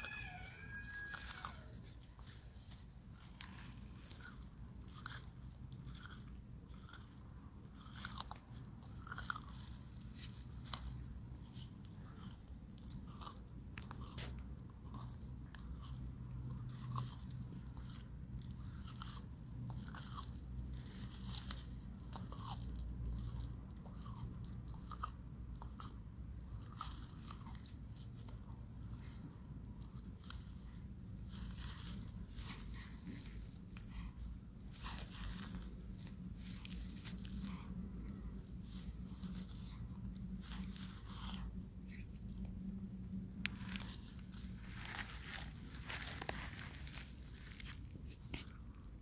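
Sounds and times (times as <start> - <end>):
low hum: 0.0 - 49.0
tortoise chewing food: 0.0 - 49.0.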